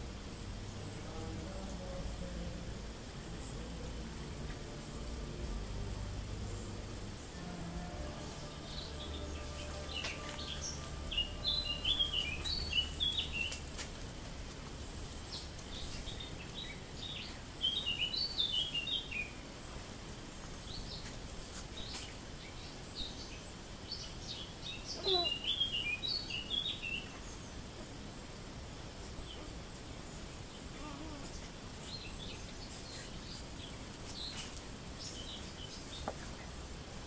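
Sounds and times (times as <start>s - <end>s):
low steady hum: 0.0s - 37.0s
songbird chirping: 0.0s - 37.0s.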